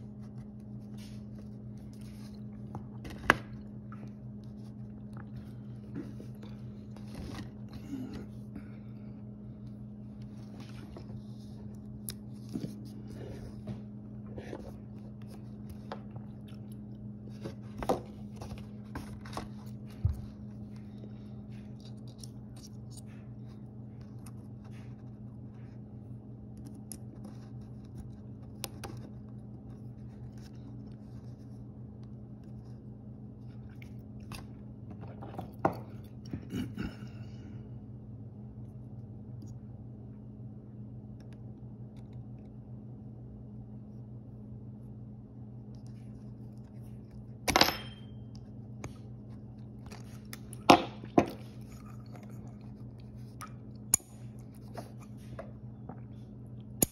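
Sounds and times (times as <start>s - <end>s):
low hum: 0.0s - 56.9s.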